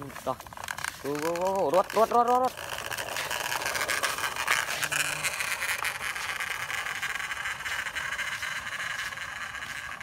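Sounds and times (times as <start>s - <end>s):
plastic toy truck scraping on dirt: 0.0s - 10.0s.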